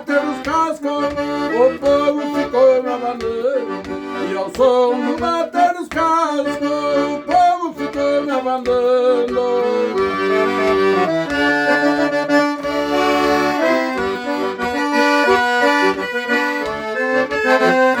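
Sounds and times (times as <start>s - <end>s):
accordion playing: 0.0s - 18.0s.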